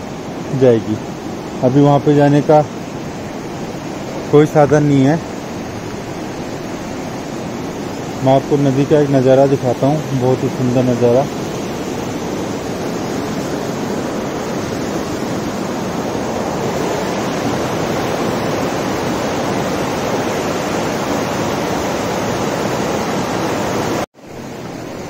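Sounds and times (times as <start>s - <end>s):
river rushing over boulders: 0.0s - 25.0s.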